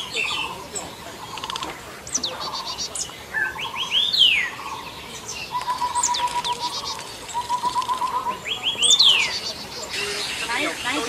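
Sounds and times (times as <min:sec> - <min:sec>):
birds chirping and trilling: 0:00.0 - 0:11.0
bird whistling: 0:01.2 - 0:11.0.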